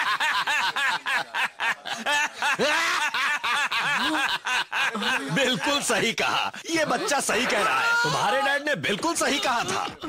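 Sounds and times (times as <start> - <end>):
men laughing: 0.0 - 8.4, 9.2 - 10.0.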